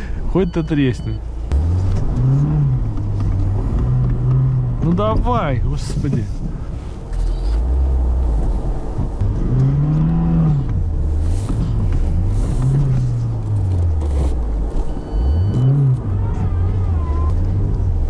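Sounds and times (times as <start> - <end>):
car engine revving: 1.3 - 6.4, 7.1 - 18.0.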